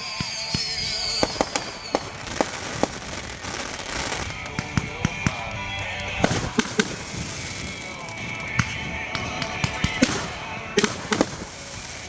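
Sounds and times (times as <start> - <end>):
background music: 0.0 - 12.0
fireworks bangs and pops: 0.0 - 12.0
fireworks crackling: 0.0 - 12.0.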